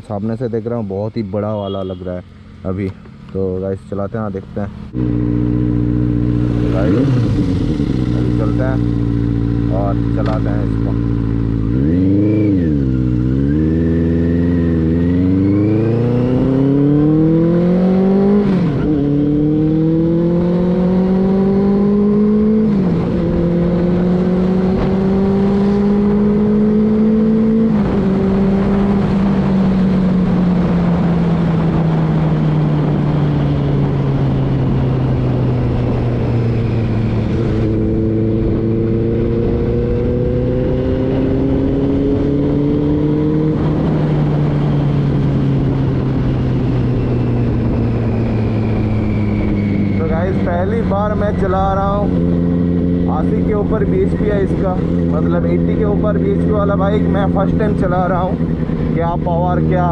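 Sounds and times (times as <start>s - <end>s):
motorcycle engine accelerating: 0.2s - 59.9s.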